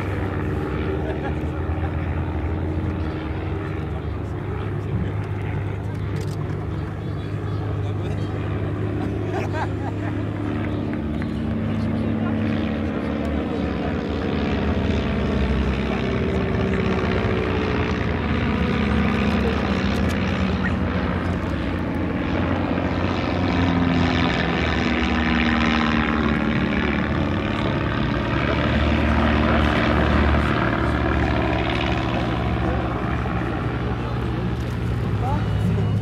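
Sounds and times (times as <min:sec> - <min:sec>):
light aircraft engines droning: 0:00.0 - 0:36.0.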